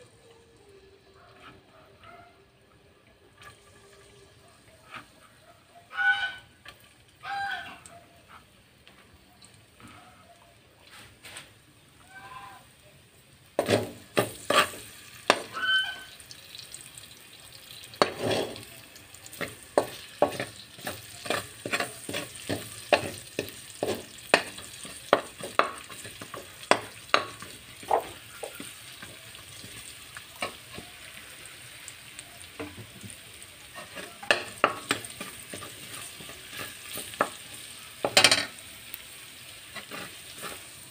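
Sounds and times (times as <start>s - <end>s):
garlic sizzling in a wok: 2.6s - 9.8s, 10.8s - 40.9s.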